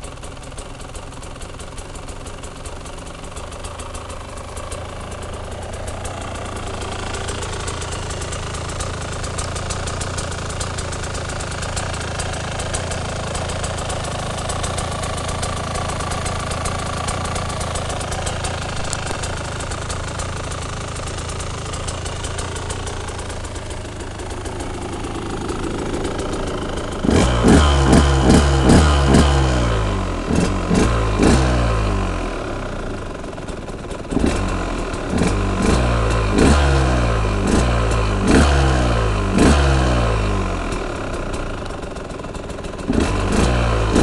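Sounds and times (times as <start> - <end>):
motorcycle engine idling and revving: 0.0 - 44.0.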